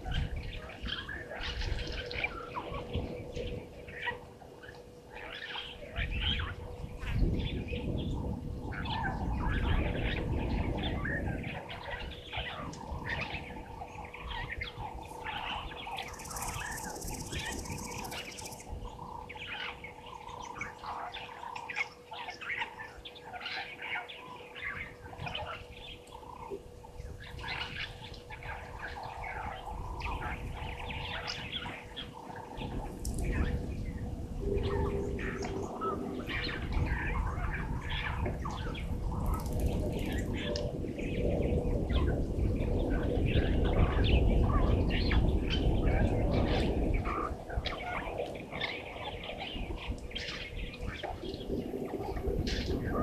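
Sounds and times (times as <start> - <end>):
birds chirping and calling: 0.0 - 53.0
faint steady hum: 0.0 - 53.0.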